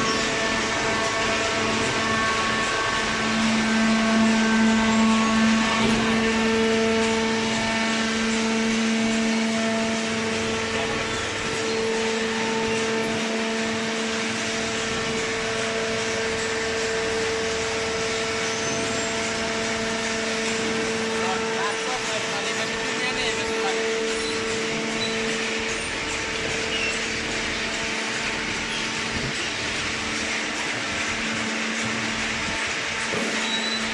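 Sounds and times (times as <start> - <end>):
hydraulic power unit humming: 0.0 - 33.9
mechanical noise: 0.0 - 33.9.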